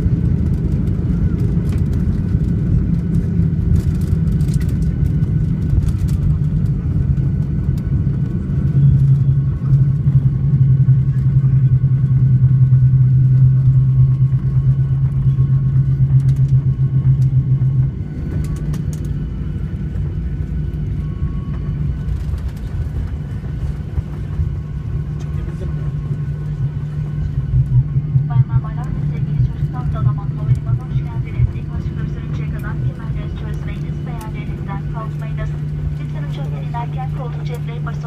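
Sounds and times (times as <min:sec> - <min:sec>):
jet engines rumbling: 0:00.0 - 0:38.0
wheels rumbling on runway: 0:00.0 - 0:38.0.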